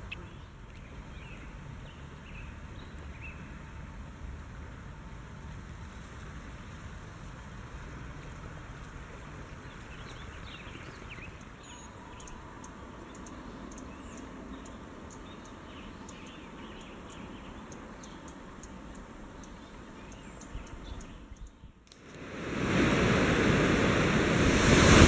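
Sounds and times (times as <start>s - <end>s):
low outdoor background noise: 0.0s - 24.3s.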